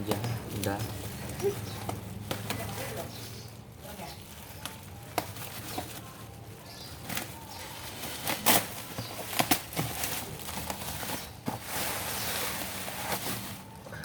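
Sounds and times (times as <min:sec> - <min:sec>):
sharp crackles and knocks: 0:00.0 - 0:03.3, 0:04.0 - 0:13.8
packaging rustling and crinkling: 0:00.0 - 0:14.0.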